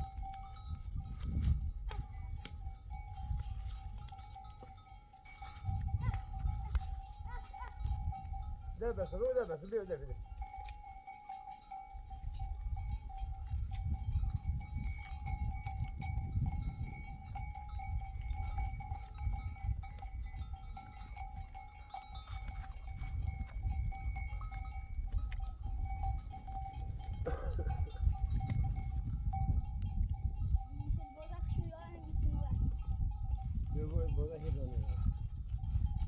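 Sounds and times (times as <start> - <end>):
wind rumble on microphone: 0.0 - 10.8, 11.8 - 36.0
sheep bells ringing: 0.0 - 36.0.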